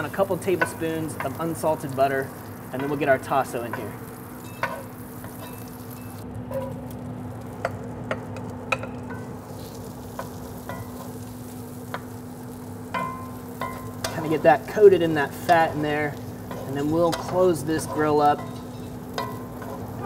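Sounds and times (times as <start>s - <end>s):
ham sizzling in butter: 0.0s - 20.0s.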